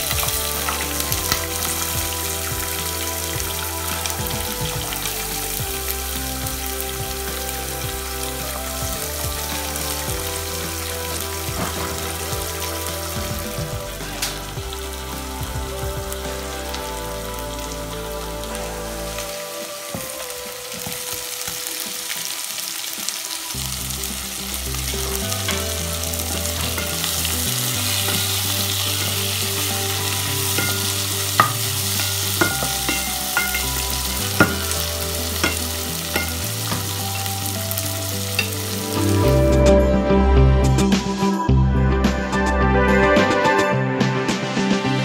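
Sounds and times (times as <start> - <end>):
food sizzling in hot oil: 0.0 - 39.3
music: 0.0 - 45.0.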